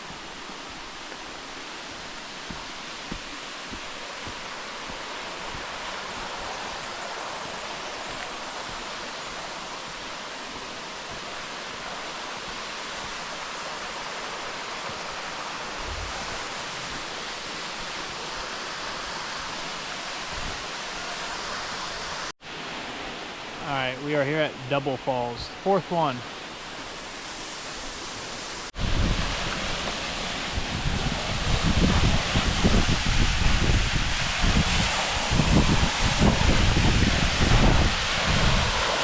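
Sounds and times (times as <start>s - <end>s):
rushing falling water: 0.0s - 39.0s.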